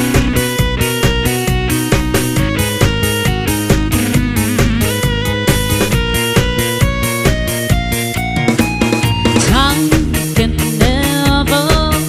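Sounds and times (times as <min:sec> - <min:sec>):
disco music by live band: 0:00.0 - 0:12.0.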